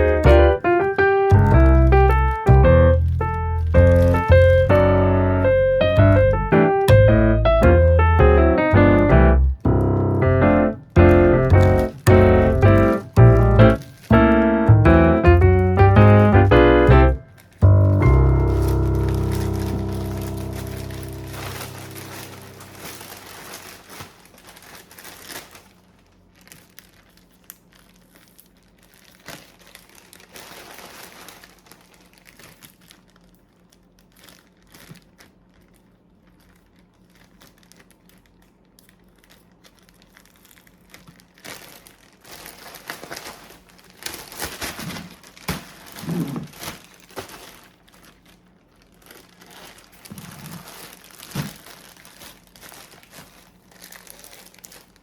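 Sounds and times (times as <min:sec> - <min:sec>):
bag crinkling and rustling: 0:00.0 - 0:06.0, 0:10.8 - 0:14.7, 0:15.5 - 0:55.0.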